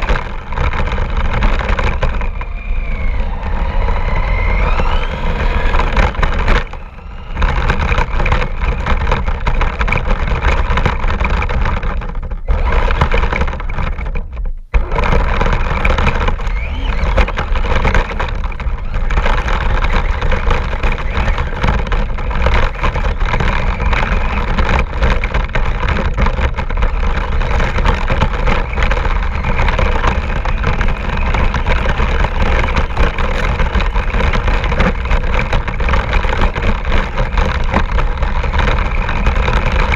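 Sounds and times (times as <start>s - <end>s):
heavy rumble: 0.0s - 39.9s
toy car motor whine: 0.0s - 39.9s.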